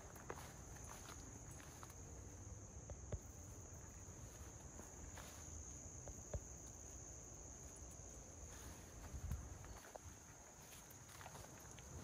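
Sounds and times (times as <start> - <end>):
footsteps tapping on path: 0.0 - 12.0
insects droning: 0.0 - 12.0.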